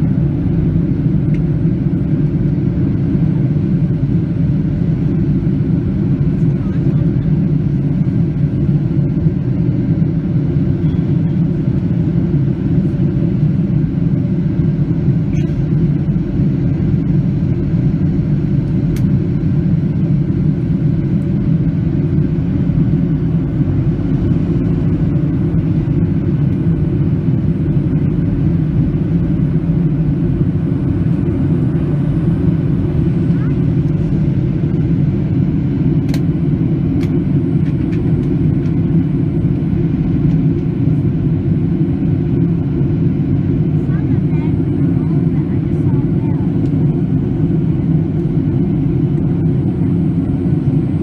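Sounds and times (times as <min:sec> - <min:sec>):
jet engine drone: 0:00.0 - 0:51.0.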